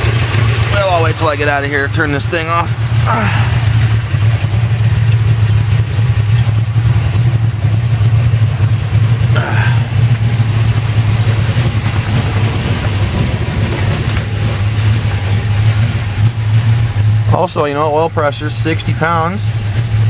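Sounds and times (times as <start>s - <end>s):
car engine running: 0.0s - 20.0s
engine dragging noise: 0.0s - 20.0s.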